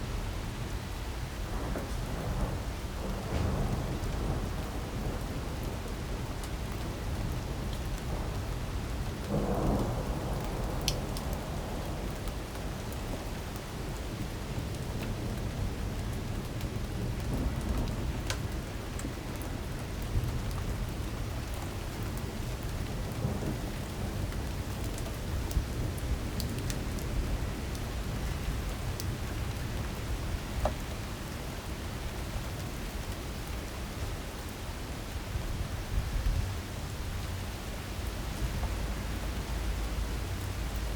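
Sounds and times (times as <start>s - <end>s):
heavy rain pouring: 0.0s - 40.9s
raindrops ticking close by: 0.3s - 40.9s.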